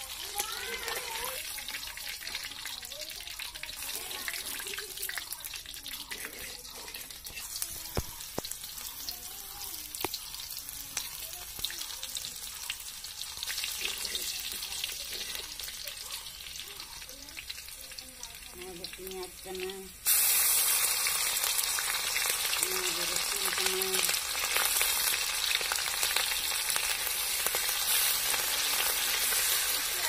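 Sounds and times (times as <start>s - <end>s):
hot oil sizzling and crackling: 0.0s - 30.0s.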